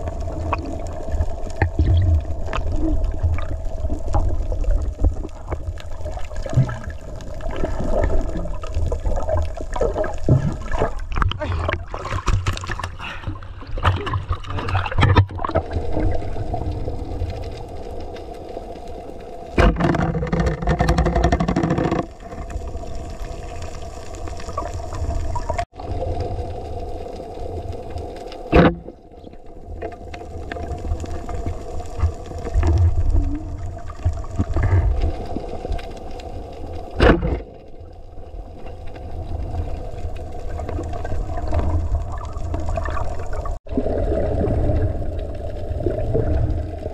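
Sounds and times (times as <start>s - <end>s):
noisy water sound: 0.0s - 46.9s.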